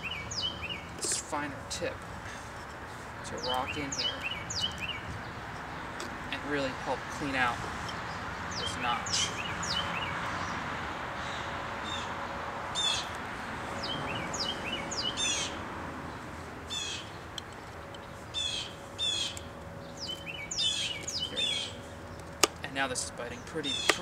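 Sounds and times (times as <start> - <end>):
songbirds chirping and trilling: 0.0 - 24.0.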